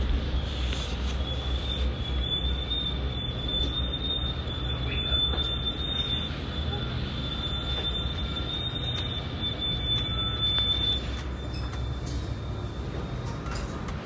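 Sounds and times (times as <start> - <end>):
high-pitched train squeal: 0.0 - 13.2
train low rumble: 0.0 - 14.0.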